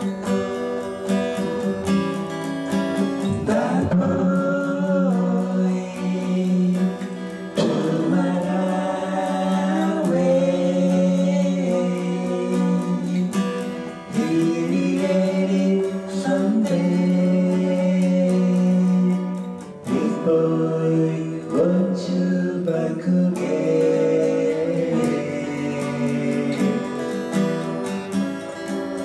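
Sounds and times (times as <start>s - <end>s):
person singing: 0.0s - 28.6s
acoustic guitar strumming: 0.0s - 29.0s.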